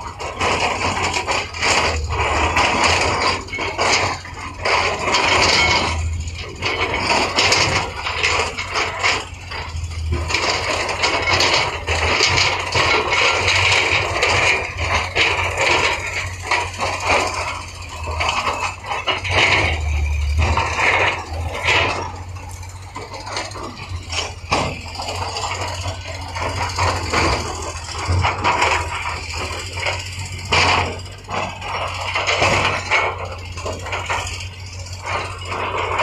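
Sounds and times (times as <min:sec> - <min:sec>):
machinery engine rumble: 0:00.0 - 0:36.0
steel scraping and rattling on rock: 0:00.0 - 0:36.0.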